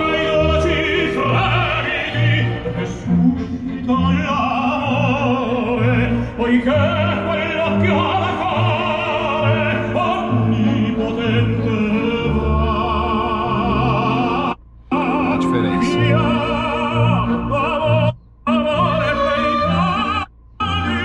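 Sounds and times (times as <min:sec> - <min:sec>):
orchestral accompaniment: 0:00.0 - 0:20.2
opera singer with vibrato: 0:00.0 - 0:21.0.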